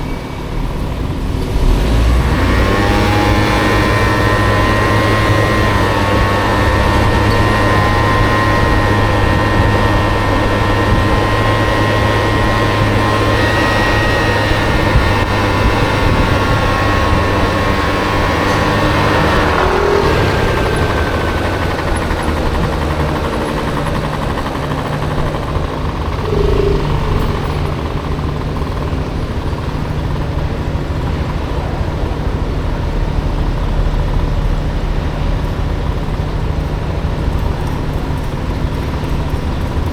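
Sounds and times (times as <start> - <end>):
city traffic: 0.0 - 39.9
scooter engine running: 0.0 - 39.9.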